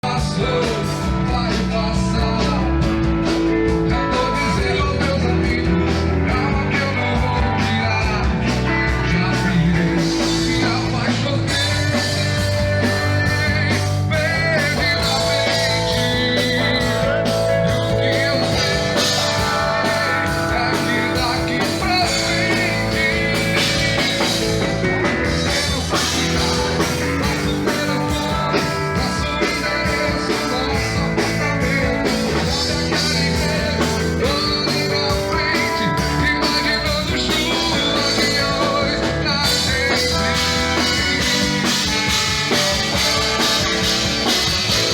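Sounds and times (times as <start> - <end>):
live band playing pop: 0.0 - 44.9
person singing: 0.0 - 44.9.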